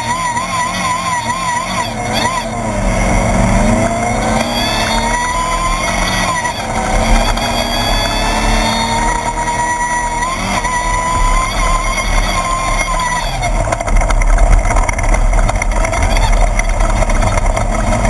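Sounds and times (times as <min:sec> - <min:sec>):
buggy engine running hard: 0:00.0 - 0:18.0.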